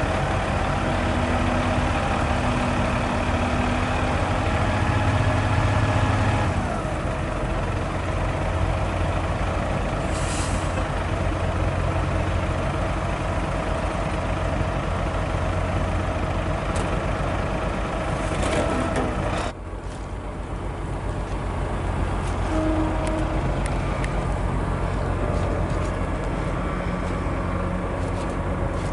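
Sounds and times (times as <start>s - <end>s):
truck diesel engine running: 0.0s - 28.9s.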